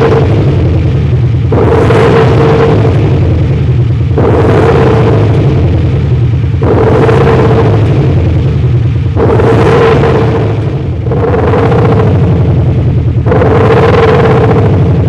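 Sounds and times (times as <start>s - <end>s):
deep exhaust rumble: 0.0s - 15.0s.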